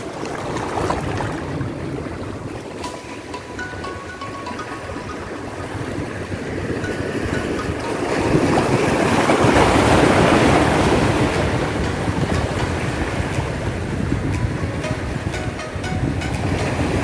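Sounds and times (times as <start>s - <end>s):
wind buffeting microphone: 0.0s - 2.8s, 5.0s - 17.0s
waves washing over rocks: 0.0s - 3.9s, 5.3s - 17.0s.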